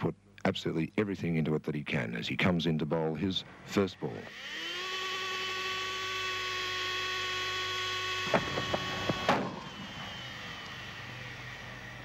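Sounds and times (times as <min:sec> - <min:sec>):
steady multi-pitch hum: 0:00.0 - 0:12.0.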